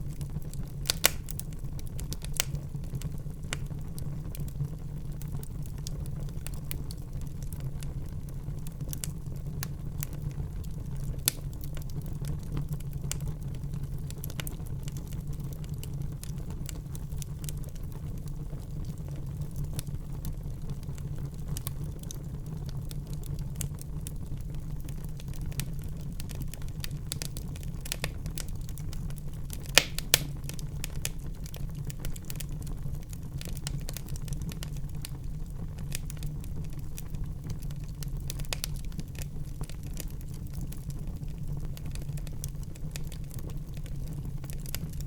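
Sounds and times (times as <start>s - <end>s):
fire rumbling: 0.0s - 45.0s
wood fire crackling and popping: 0.0s - 45.0s.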